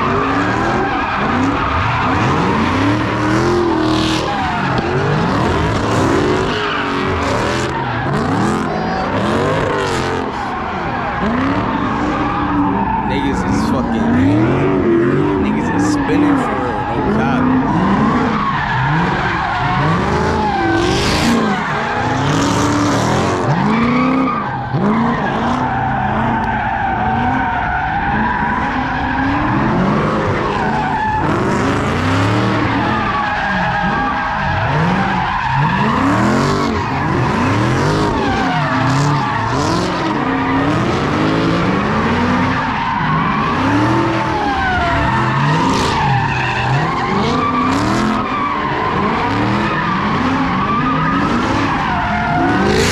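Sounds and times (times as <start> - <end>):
car engines revving: 0.0 - 52.9
tyres squealing: 0.0 - 52.9.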